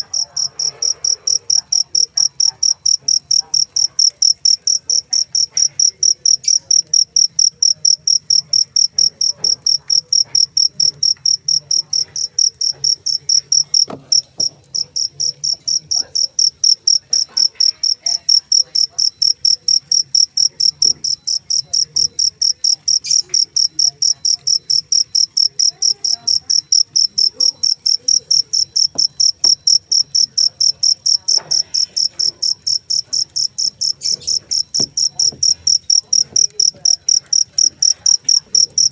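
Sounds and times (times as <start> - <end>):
cricket chirping: 0.1 - 38.9.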